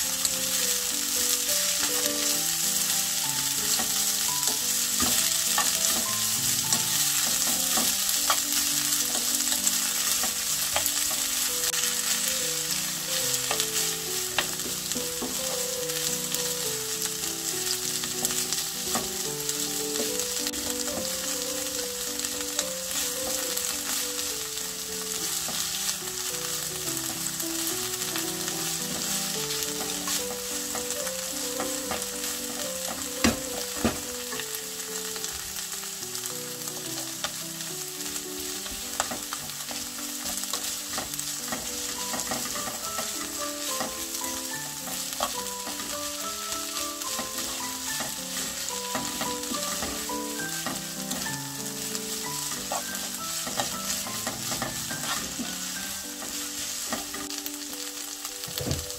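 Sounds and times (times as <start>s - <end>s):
vegetables sizzling in a frying pan: 0.0s - 58.9s.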